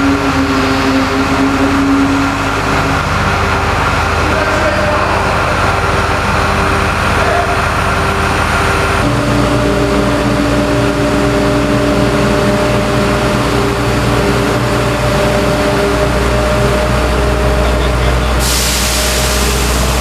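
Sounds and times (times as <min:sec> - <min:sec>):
cleaning train machinery drone: 0:00.0 - 0:20.0.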